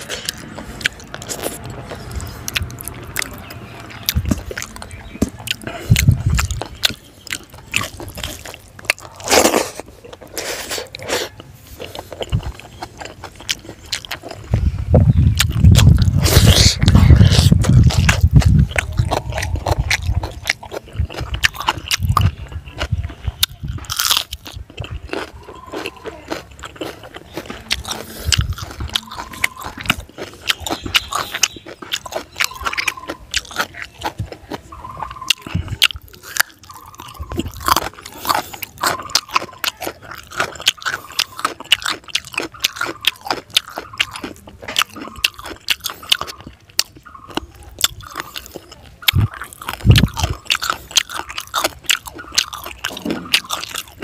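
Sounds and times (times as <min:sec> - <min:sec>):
man chewing and crunching food: 0:00.0 - 0:54.0.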